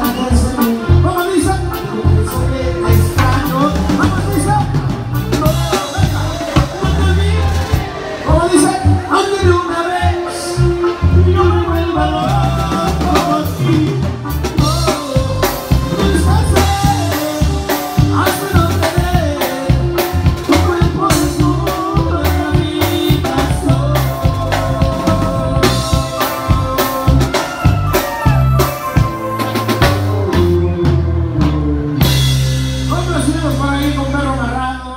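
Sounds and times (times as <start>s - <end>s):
live band playing: 0.0s - 34.9s
man singing: 0.0s - 34.9s.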